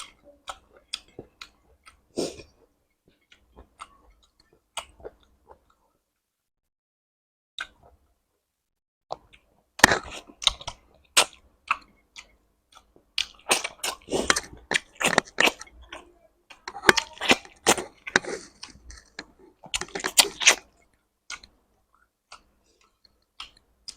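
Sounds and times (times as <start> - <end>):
chewing and mouth smacking: 0.0 - 5.8, 9.1 - 23.9.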